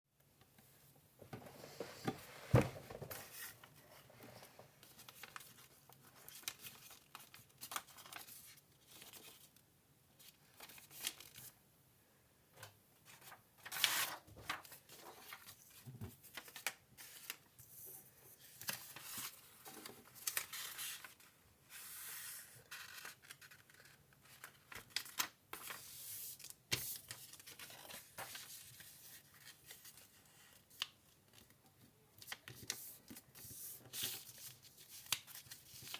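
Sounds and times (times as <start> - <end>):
paper folding and creasing: 1.6 - 9.6, 13.1 - 17.4, 18.4 - 31.6, 32.2 - 35.9.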